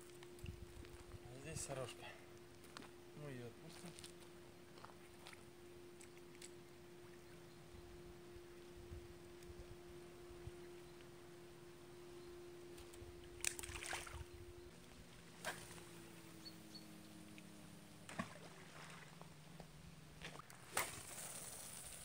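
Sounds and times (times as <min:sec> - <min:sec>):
distant motorboat engine drone: 0:00.0 - 0:22.0.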